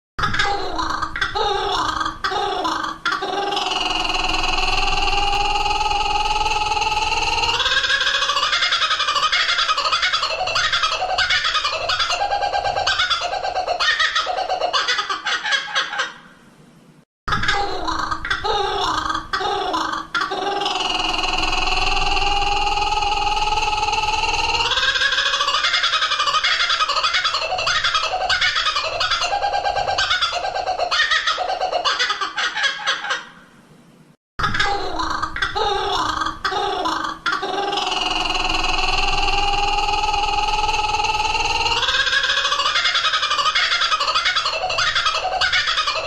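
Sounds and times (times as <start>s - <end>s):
kookaburra laughing call: 0.2s - 16.4s, 17.3s - 33.6s, 34.4s - 46.0s.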